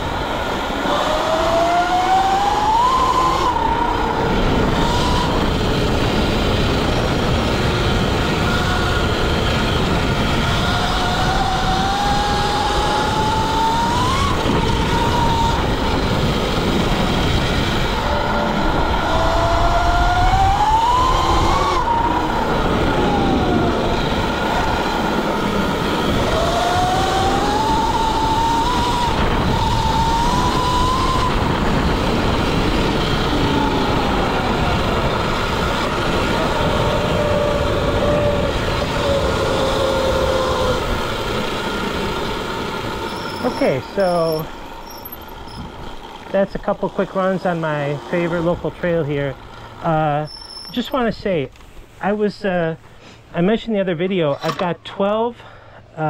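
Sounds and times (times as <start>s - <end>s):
electric motor whine: 0.0s - 50.8s
wind and tyre noise: 0.0s - 56.0s.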